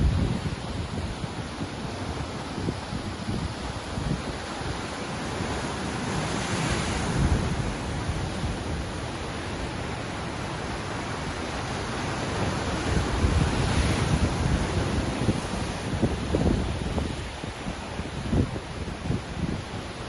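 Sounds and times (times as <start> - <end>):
ocean waves washing onto shore: 0.0 - 20.0
wind rumbling on microphone: 0.0 - 20.0.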